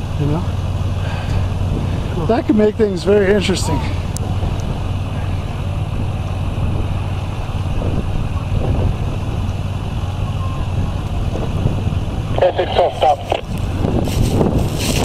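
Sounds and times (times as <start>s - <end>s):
fire whirl wind rumble: 0.0s - 15.0s.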